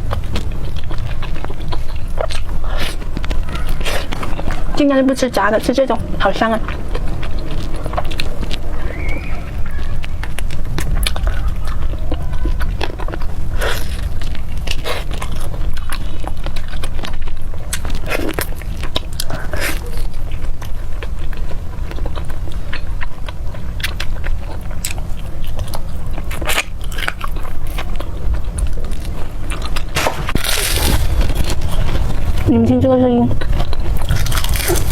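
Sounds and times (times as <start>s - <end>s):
person chewing: 0.0s - 32.6s, 33.3s - 34.9s.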